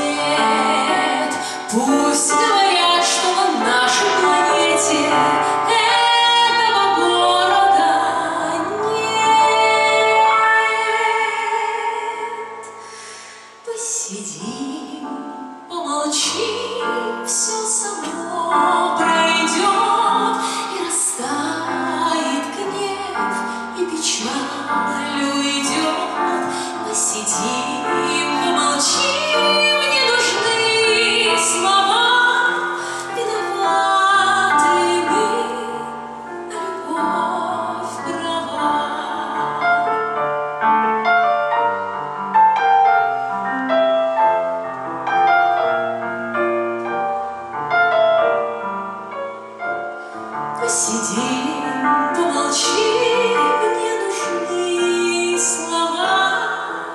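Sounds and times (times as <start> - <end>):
woman singing into a microphone: 0.0 - 40.0, 50.5 - 56.9.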